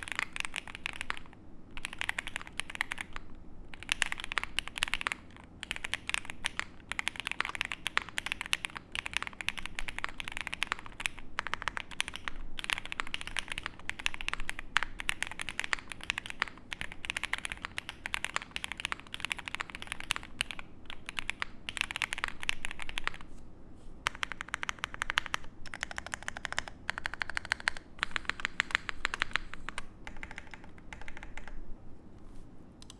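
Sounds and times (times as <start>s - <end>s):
mechanical keyboard typing: 0.0s - 23.2s, 24.1s - 31.6s.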